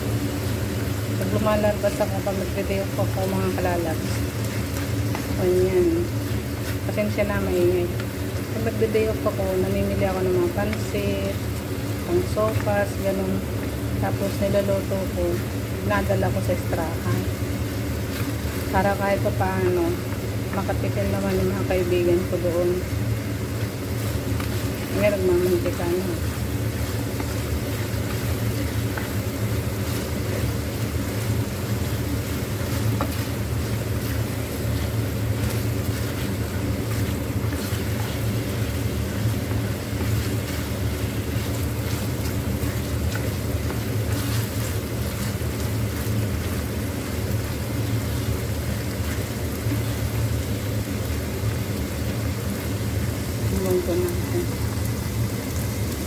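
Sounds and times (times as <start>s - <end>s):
chicken sizzling in hot oil: 0.0s - 56.0s
low mechanical hum: 0.0s - 56.0s.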